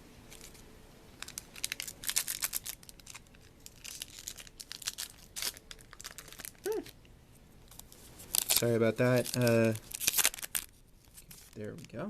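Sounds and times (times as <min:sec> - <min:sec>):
plastic packaging crinkling and tearing: 0:00.3 - 0:00.6, 0:01.2 - 0:07.0, 0:07.6 - 0:12.0.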